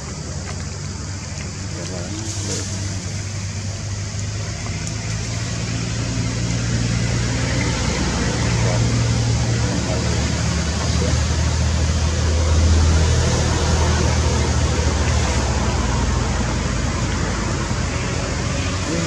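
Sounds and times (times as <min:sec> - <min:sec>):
continuous hiss: 0:00.0 - 0:19.0
engine hum: 0:00.0 - 0:19.0.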